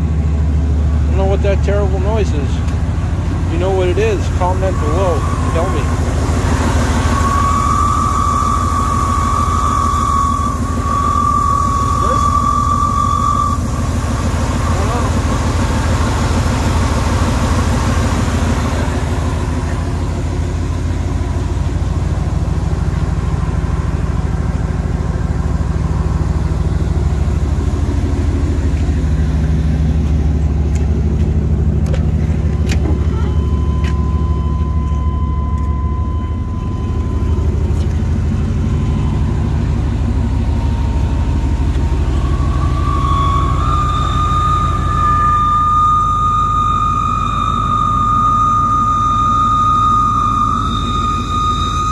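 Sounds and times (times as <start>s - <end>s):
thin high whine: 0.0s - 51.9s
truck engine idling: 0.0s - 51.9s.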